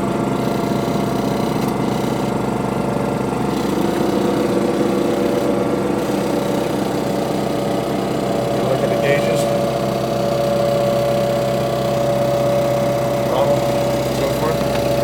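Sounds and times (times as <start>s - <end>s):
diesel locomotive engine idling: 2.3s - 15.0s.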